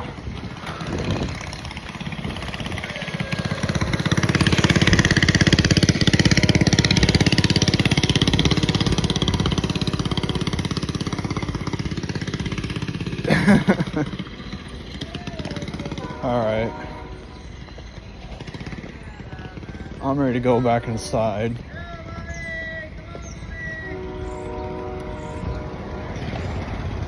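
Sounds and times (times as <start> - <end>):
vehicle engine passing by: 0.0 - 21.4, 24.3 - 27.0.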